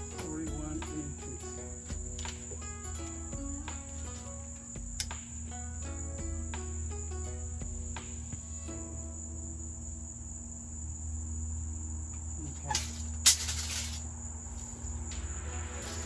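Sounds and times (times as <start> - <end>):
crickets trilling: 0.0 - 16.0
low hum: 0.0 - 16.0.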